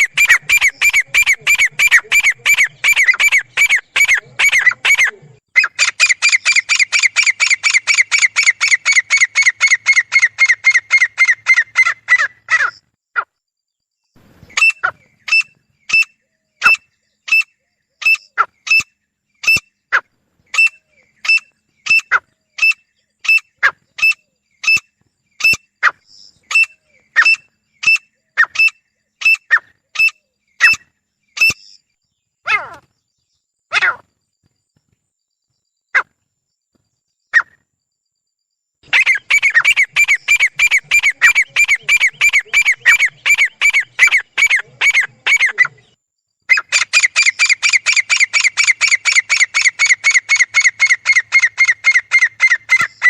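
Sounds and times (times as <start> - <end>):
sharp bird calls: 0.0 - 13.4, 14.0 - 37.7, 38.8 - 53.0.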